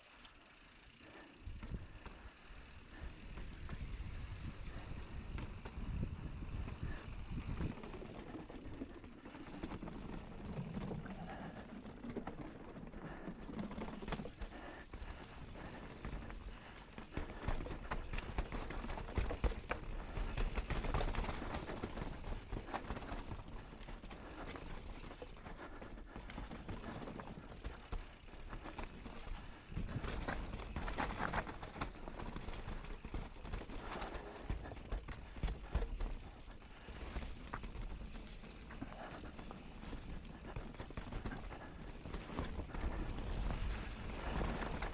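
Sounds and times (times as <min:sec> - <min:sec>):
bike tyres rumbling over ground: 0:01.0 - 0:44.9.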